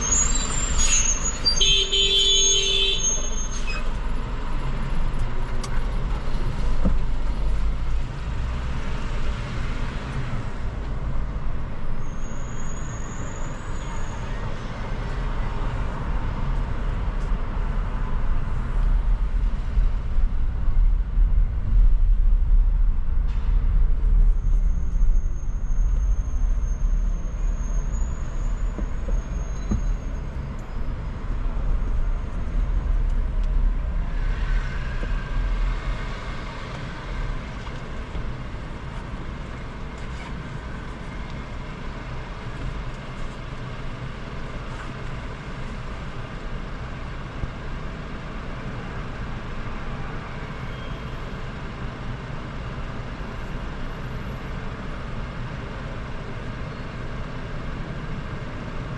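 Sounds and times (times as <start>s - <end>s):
road and engine rumble: 0.0s - 58.9s.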